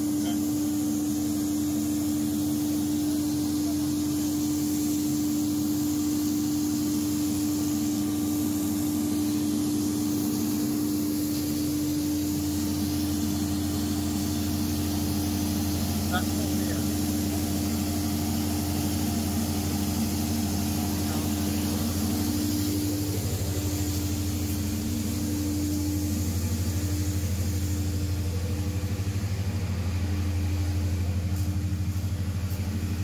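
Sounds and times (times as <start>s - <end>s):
gas engine generator droning: 0.0s - 33.0s.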